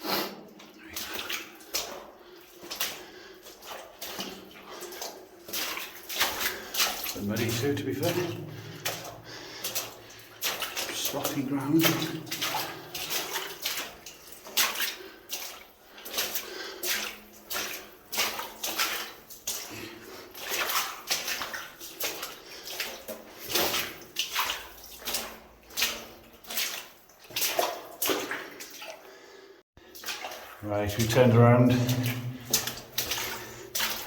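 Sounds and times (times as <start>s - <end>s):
footsteps squelching in mud: 0.4s - 34.0s.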